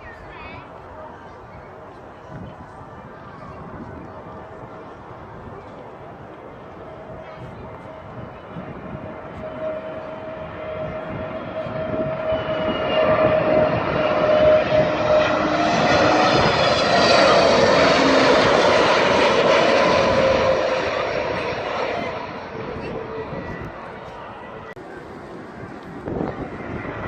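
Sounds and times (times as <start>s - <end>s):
airliner engine whine: 0.0s - 27.0s.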